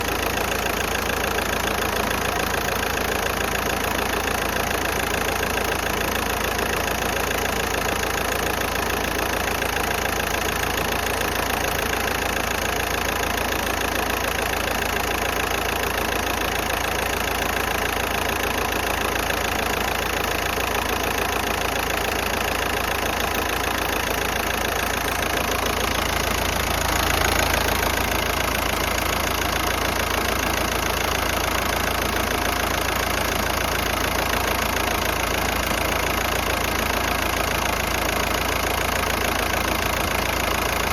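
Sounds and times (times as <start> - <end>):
diesel engine idling unevenly: 0.0 - 40.9.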